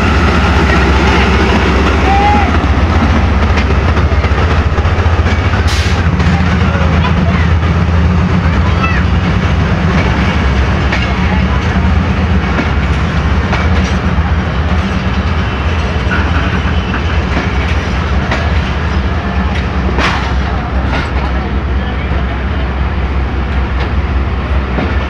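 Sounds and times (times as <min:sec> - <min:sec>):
train coaches rumbling past: 0:00.0 - 0:25.0.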